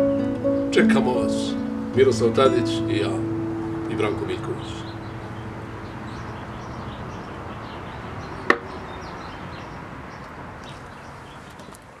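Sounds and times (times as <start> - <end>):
outdoor background noise: 1.6 - 12.0.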